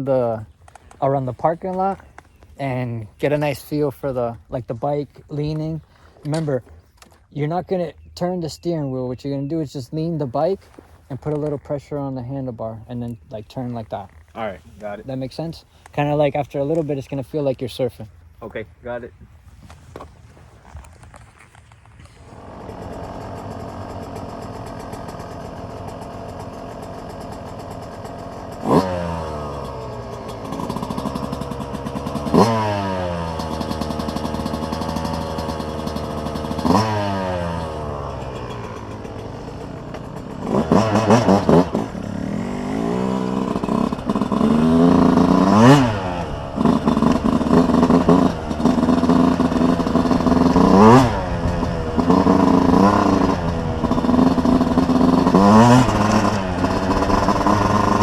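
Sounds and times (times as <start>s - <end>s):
dirt bike engine revving: 0.0s - 17.9s, 22.0s - 58.0s.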